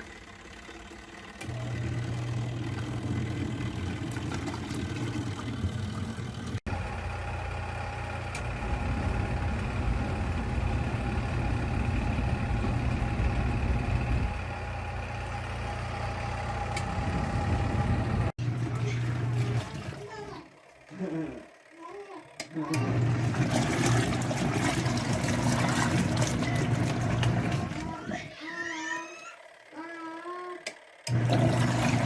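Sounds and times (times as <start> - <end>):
washing machine motor humming: 0.0 - 32.0.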